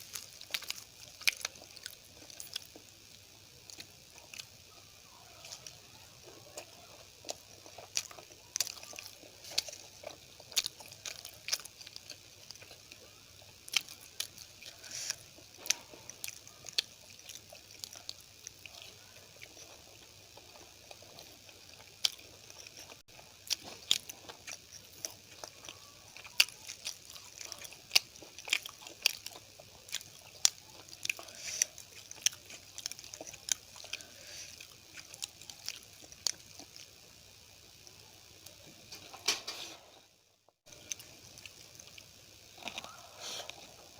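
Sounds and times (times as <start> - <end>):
person chewing food: 0.0 - 37.0, 40.7 - 43.9.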